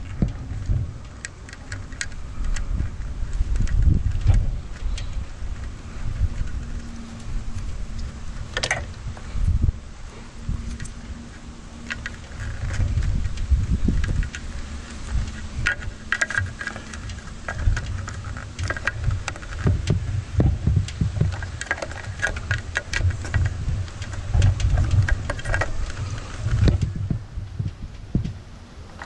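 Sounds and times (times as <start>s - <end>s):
cables and connectors rattling: 0.0s - 29.0s
low uneven rumble: 0.0s - 29.0s.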